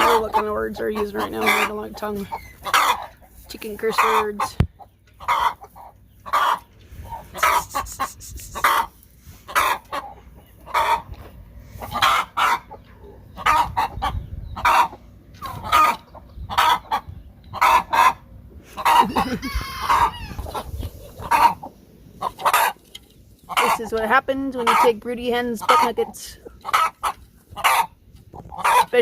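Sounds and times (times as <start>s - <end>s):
hens clucking and squawking: 0.0s - 29.0s.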